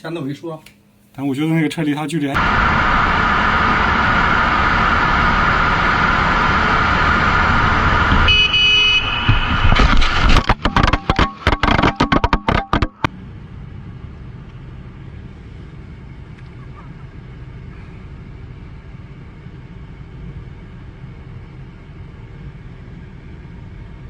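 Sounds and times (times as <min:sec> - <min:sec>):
car engine and road noise: 0:02.4 - 0:24.0.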